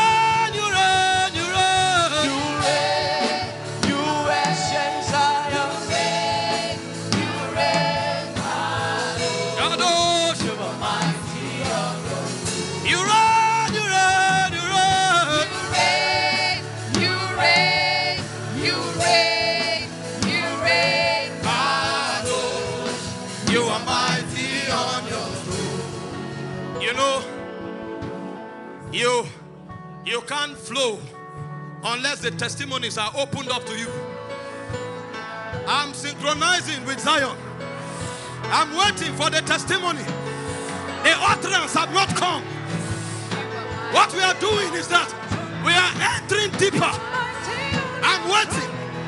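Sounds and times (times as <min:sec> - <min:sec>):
instrumental accompaniment: 0:00.0 - 0:49.0.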